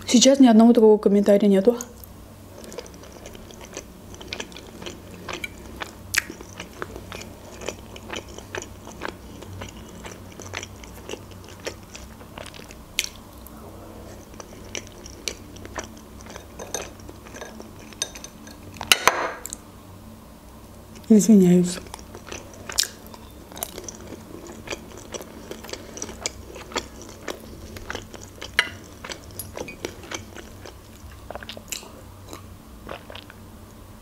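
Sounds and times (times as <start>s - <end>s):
wet chewing mouth sounds: 2.6s - 18.4s, 21.8s - 33.4s.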